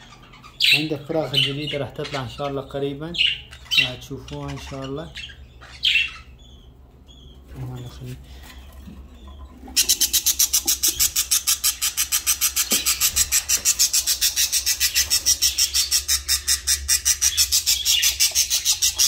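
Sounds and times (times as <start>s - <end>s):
bird chicks cheeping: 0.0s - 19.0s.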